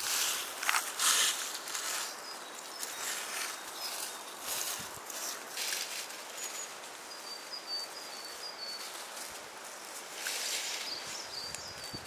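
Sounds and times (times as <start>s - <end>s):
dry leaves rustling: 0.0s - 12.0s
steady outdoor hiss: 0.0s - 12.0s.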